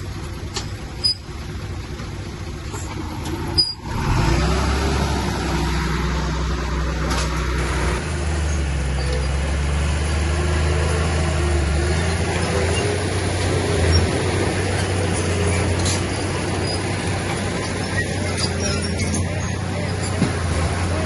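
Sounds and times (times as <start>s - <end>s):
heavy machinery diesel engine drone: 0.0s - 21.0s.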